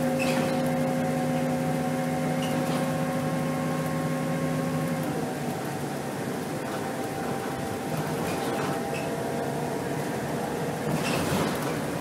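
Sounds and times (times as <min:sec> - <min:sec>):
bus drivetrain hum: 0:00.0 - 0:12.0
road noise: 0:00.0 - 0:12.0.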